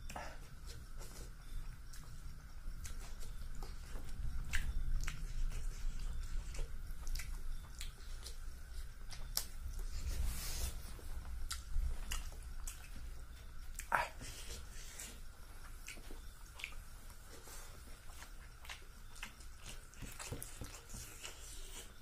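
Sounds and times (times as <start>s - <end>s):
chewing with wet mouth clicks: 1.0s - 9.9s, 11.4s - 14.0s, 15.0s - 22.0s.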